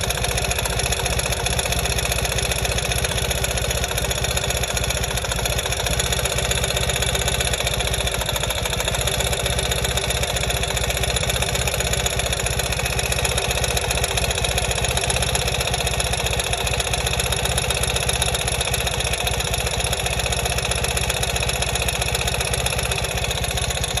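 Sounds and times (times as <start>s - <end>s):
fast mechanical ticking: 0.0s - 24.0s
motorcycle engine idling: 0.0s - 24.0s.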